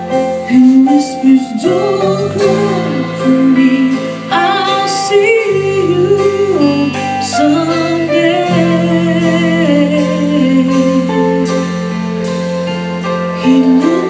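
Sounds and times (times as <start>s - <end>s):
woman singing with vibrato: 0.0s - 12.4s, 13.2s - 14.0s
band playing slow ballad: 0.0s - 14.0s.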